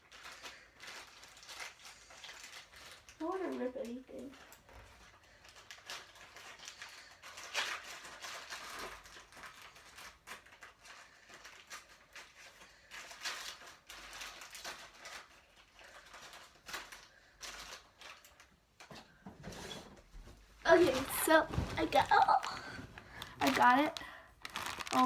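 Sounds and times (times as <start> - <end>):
packaging rustling and tearing: 0.0 - 18.9, 20.7 - 25.0.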